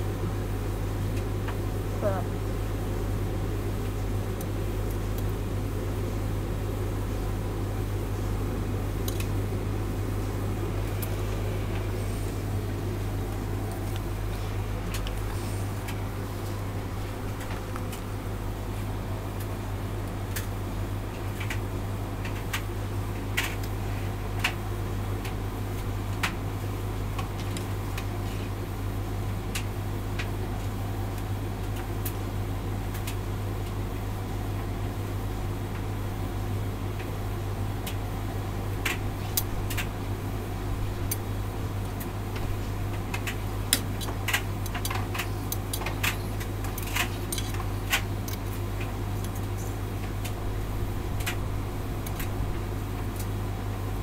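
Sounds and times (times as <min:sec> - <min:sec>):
tumble dryer motor hum: 0:00.0 - 0:54.0.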